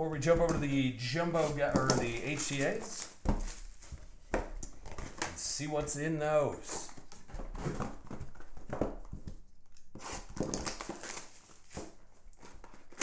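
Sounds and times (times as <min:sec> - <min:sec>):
cardboard boxes rustling and scraping: 0:00.2 - 0:13.0.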